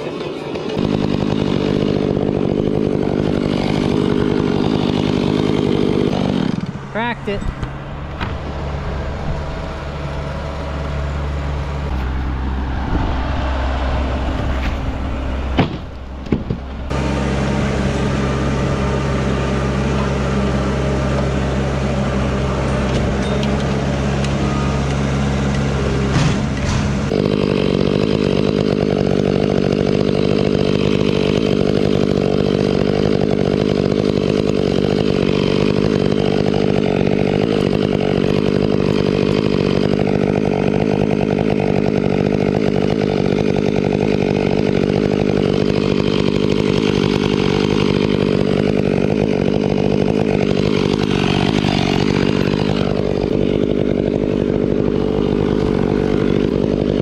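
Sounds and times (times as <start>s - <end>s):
chainsaw cutting wood: 0.0s - 13.2s, 14.0s - 57.0s
engine running: 0.0s - 57.0s.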